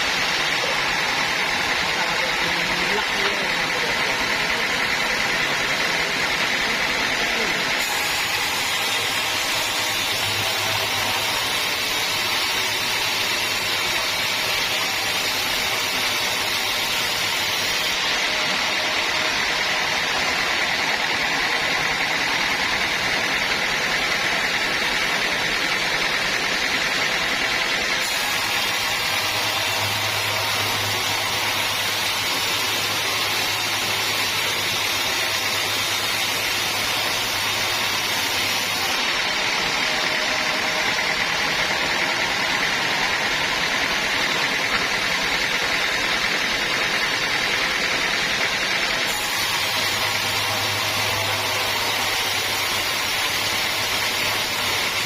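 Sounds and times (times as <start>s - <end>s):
saw whining: 0.0s - 55.0s.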